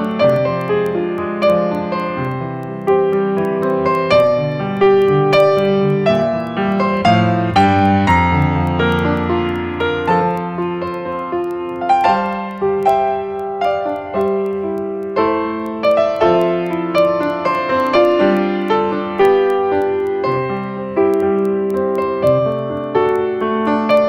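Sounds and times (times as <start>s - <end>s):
slow piano playing: 0.0s - 24.0s.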